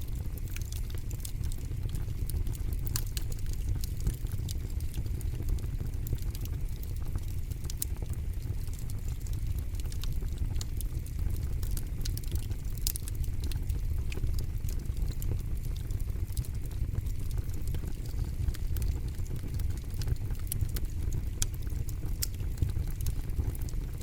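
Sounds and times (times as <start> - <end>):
burning wood crackling and popping: 0.0 - 24.0
low fire rumble: 0.0 - 24.0.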